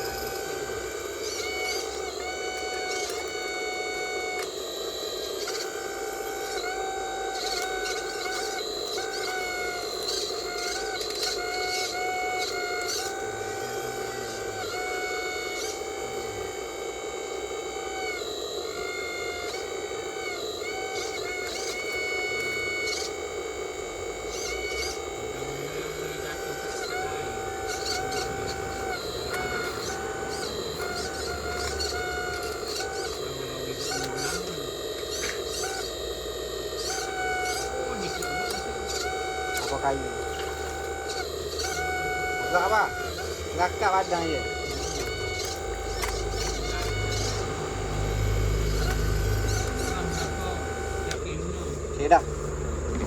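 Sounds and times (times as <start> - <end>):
small electric motors whining: 0.0 - 53.0.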